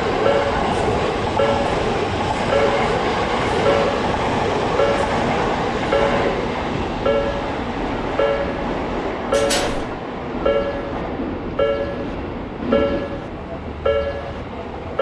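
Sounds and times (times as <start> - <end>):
train rumbling past: 0.0 - 15.0
crossing warning bell ringing: 0.1 - 15.0.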